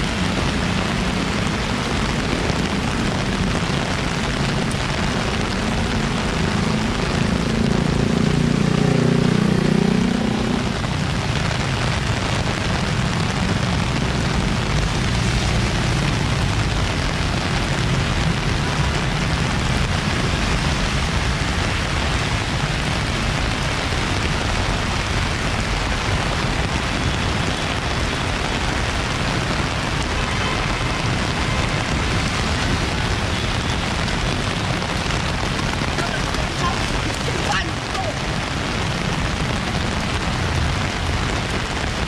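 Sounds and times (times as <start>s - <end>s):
heavy rain on street: 0.0s - 42.0s
passing road traffic rumble: 0.0s - 42.0s
rain on umbrella: 0.0s - 42.0s.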